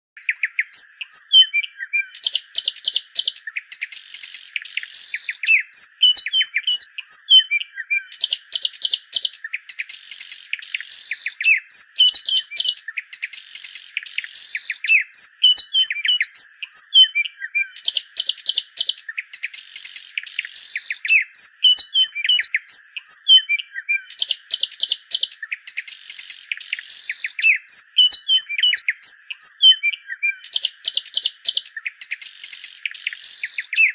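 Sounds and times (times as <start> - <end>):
songbird chirps and trills: 0.2 - 33.9.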